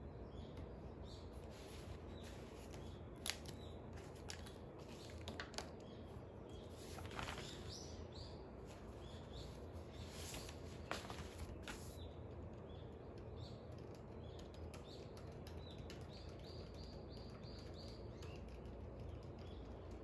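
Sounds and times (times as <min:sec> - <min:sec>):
birds chirping: 0:00.0 - 0:18.5
low background hum: 0:00.0 - 0:20.0.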